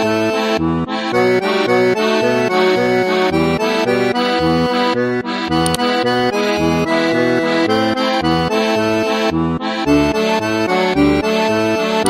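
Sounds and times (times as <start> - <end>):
accordion playing a tune: 0.0 - 12.0.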